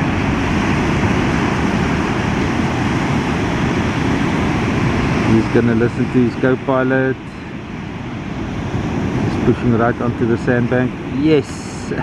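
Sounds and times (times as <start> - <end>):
breaking surf: 0.0 - 12.0
wind on microphone: 0.0 - 12.0.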